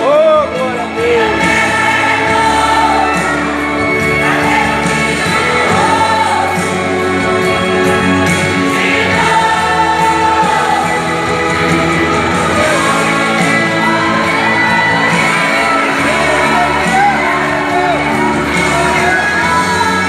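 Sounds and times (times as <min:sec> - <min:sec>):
instrumental backing: 0:00.0 - 0:20.0
group singing worship song: 0:00.8 - 0:20.0.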